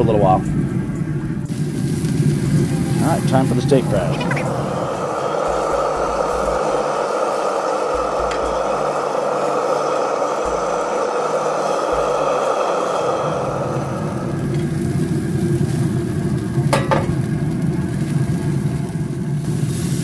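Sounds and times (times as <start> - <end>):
grill fire and fan rushing: 0.0 - 20.0.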